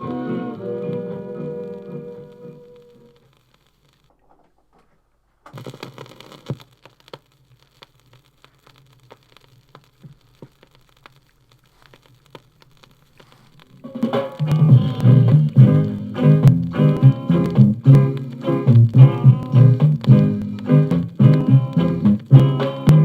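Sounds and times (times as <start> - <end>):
vinyl record crackling: 0.0 - 23.0
record clicks and pops: 2.8 - 23.0.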